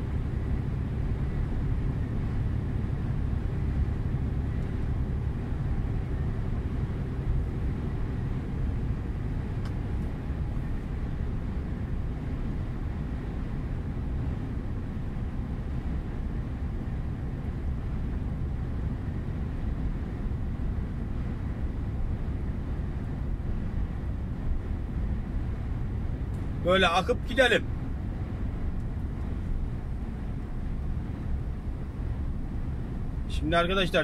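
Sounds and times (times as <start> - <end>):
truck engine and road rumble: 0.0 - 34.0.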